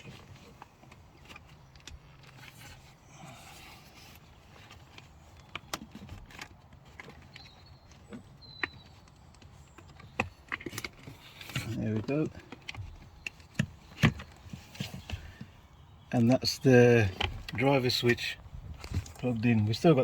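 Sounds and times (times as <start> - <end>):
rustling of wiring: 0.0 - 20.0.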